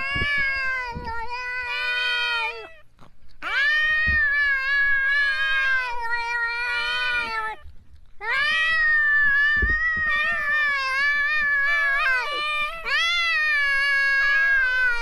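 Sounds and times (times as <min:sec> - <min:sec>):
cat yowling: 0:00.0 - 0:15.0.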